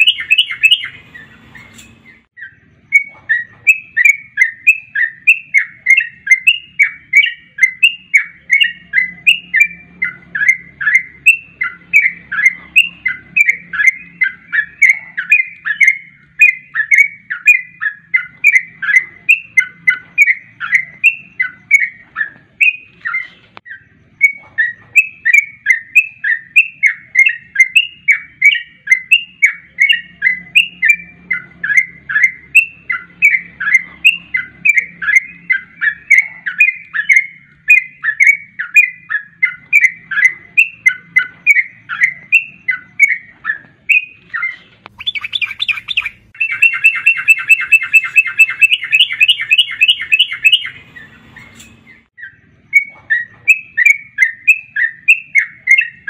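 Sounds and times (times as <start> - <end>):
bird chirping rapidly: 0.0 - 56.0.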